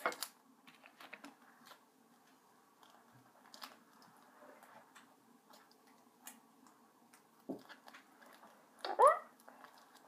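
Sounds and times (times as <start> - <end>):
faint clicks and rustles of hands: 0.1 - 10.0.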